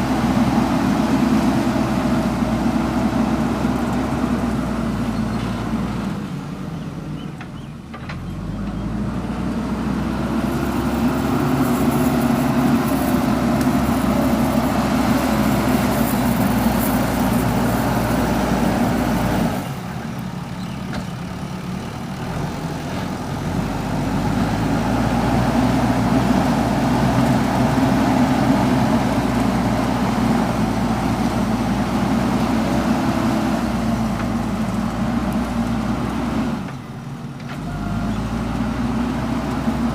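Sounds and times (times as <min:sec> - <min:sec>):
diesel engine revving: 0:00.0 - 0:07.2, 0:08.1 - 0:39.9.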